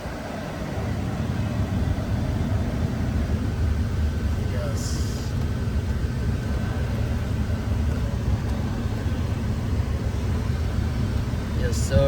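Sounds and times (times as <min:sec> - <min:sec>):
car engine idling: 0:00.0 - 0:12.0
faint steady whine: 0:00.0 - 0:12.0.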